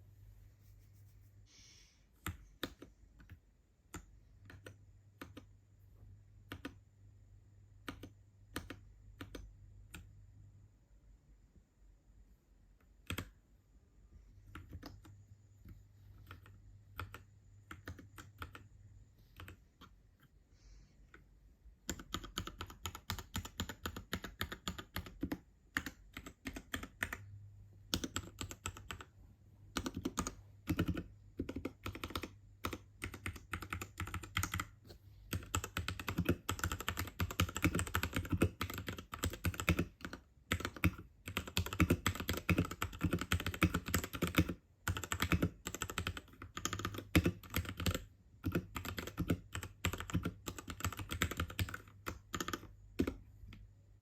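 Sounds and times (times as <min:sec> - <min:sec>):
mechanical keyboard typing: 0:02.2 - 0:05.6, 0:06.4 - 0:06.8, 0:07.8 - 0:10.1, 0:12.9 - 0:13.4, 0:14.4 - 0:20.0, 0:21.8 - 0:29.1, 0:29.7 - 0:53.6.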